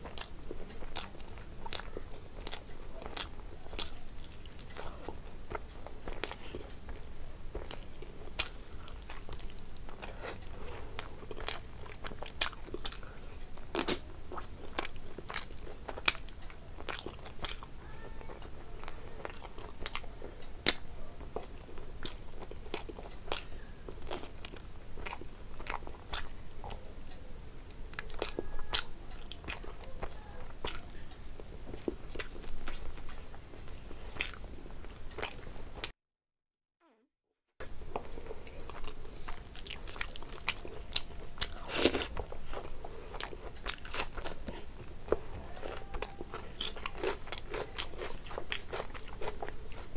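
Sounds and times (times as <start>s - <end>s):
person chewing: 0.0s - 36.0s, 37.6s - 49.9s.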